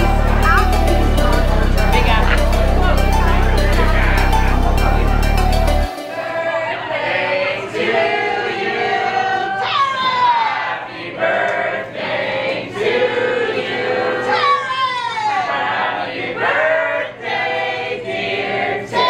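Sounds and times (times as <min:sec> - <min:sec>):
voices singing together: 0:00.0 - 0:19.0.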